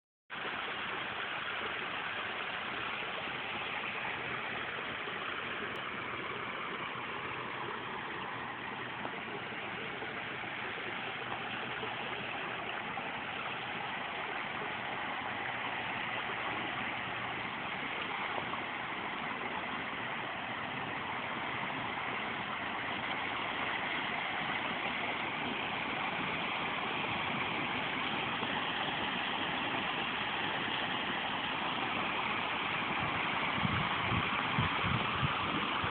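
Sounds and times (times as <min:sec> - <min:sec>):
water pouring down waterfall: 0:00.3 - 0:35.9.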